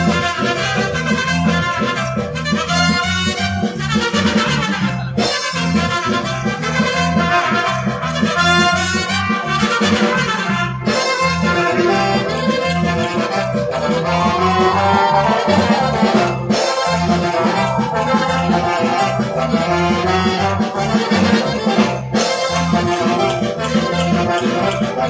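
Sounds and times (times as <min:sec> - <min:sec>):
brass band playing a march: 0:00.0 - 0:25.0.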